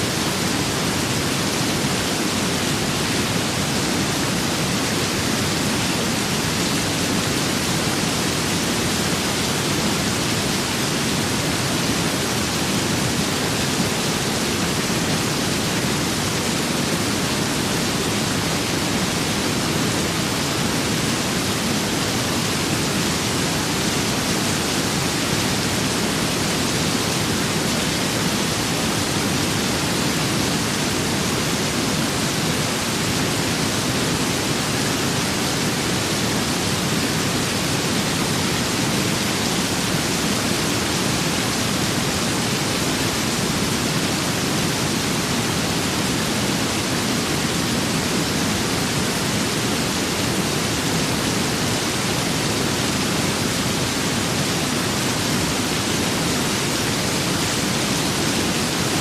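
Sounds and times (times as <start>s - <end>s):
rain with wind: 0.0s - 59.0s.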